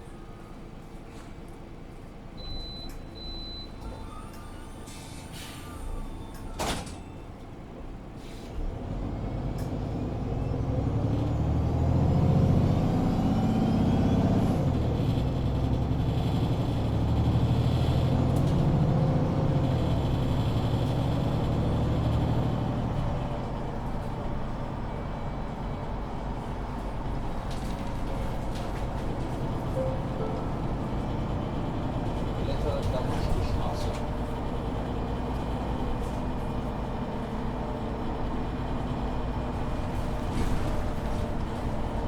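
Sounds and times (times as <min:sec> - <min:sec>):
bus diesel engine accelerating: 0:00.0 - 0:42.0.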